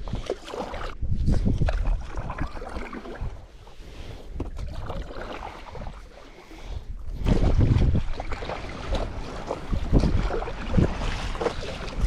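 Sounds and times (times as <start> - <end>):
water splashing and lapping: 0.0 - 12.0
wind gusting on microphone: 0.0 - 12.0.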